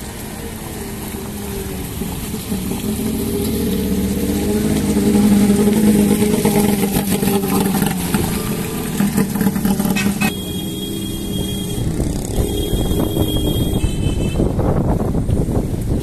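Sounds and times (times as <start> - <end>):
truck engine humming: 0.0 - 15.5.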